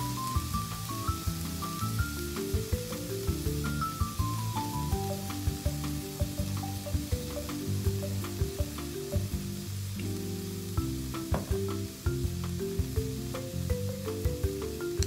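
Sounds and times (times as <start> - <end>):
background music: 0.0 - 15.0
stir-fry sizzling in a pan: 0.0 - 15.0.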